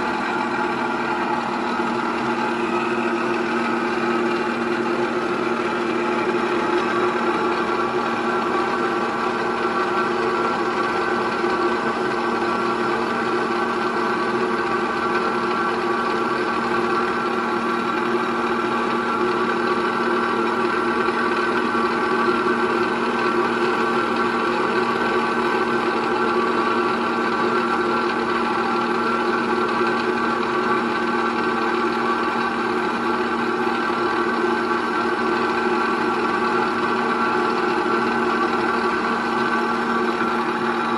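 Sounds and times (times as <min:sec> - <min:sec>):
grinding wheel grinding metal: 0:00.0 - 0:40.9.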